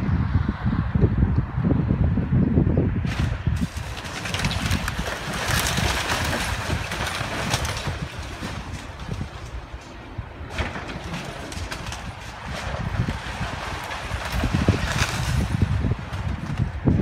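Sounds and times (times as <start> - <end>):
wind rumble on microphone: 0.0 - 17.0
excavator engine running: 3.1 - 17.0
timber crackling and splintering: 3.1 - 17.0.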